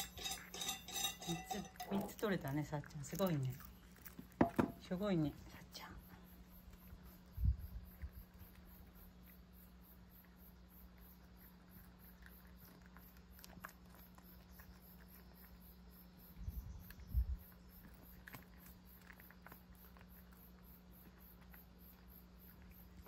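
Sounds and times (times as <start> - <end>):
cat crunching dried fish: 0.0 - 5.5, 7.9 - 16.0, 16.8 - 23.0.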